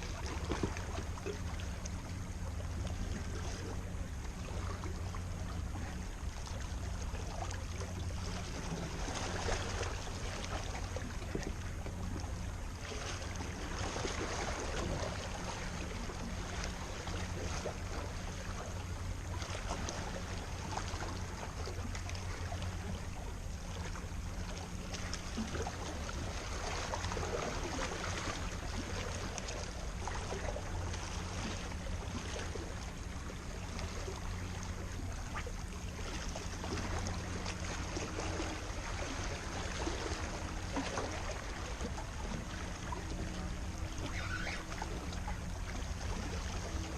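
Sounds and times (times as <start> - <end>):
boat motor humming: 0.0 - 46.9
water splashing along hull: 0.0 - 46.9.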